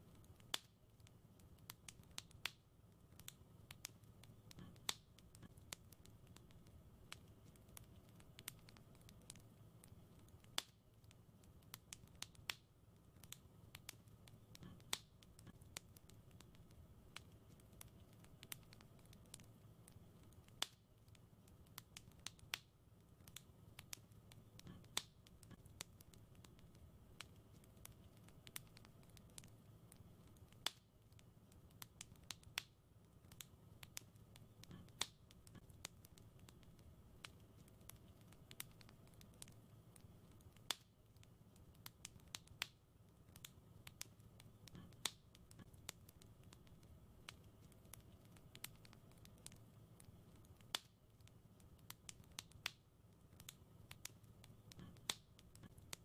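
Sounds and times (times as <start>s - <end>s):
low rumble of burning fire: 0.0s - 56.0s
wood fire crackling and popping: 0.0s - 56.0s.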